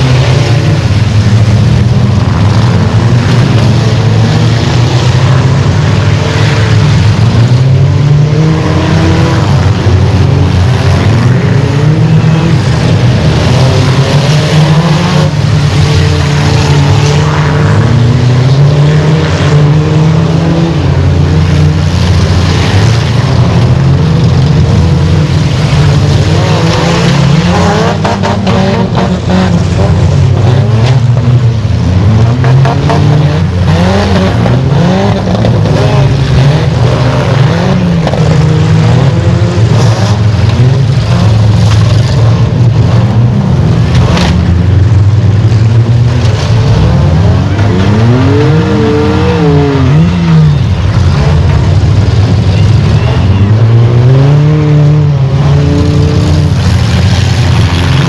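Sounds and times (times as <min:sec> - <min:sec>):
car engines racing: 0:00.0 - 0:58.0.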